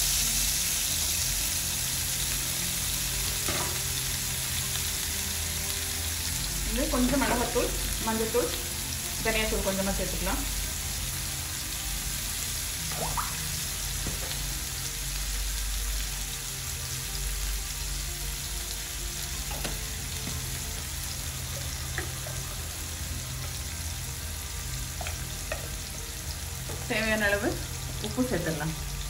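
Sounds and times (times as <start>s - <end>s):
potatoes sizzling in oil: 0.0s - 29.0s.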